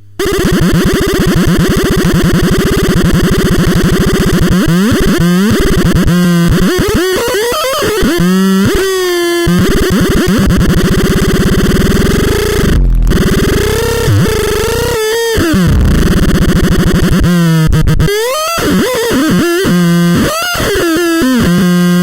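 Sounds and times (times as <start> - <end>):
synthesizer pulsing buzz: 0.0 - 22.0.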